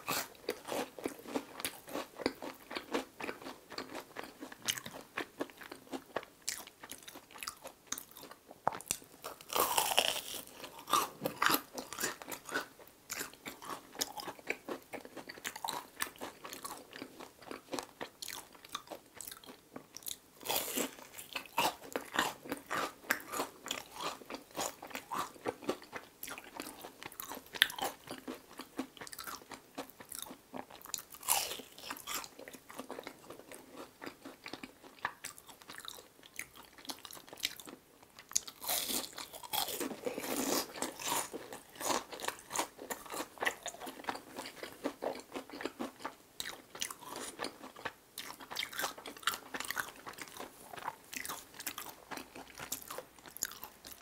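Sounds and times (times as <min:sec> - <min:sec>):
crunching fried bread: 0:00.0 - 0:54.0
wet chewing: 0:00.0 - 0:54.0.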